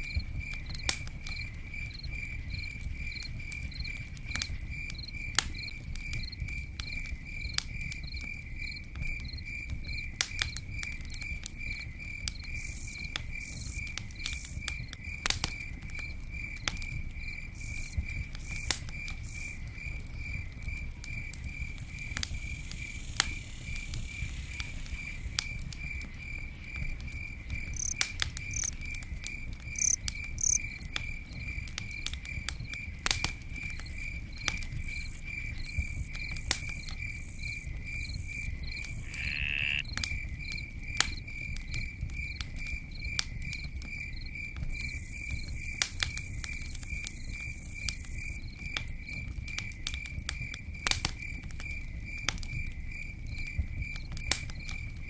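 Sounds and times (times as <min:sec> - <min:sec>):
campfire crackling and popping: 0:00.0 - 0:55.0
cricket chirping: 0:00.0 - 0:55.0.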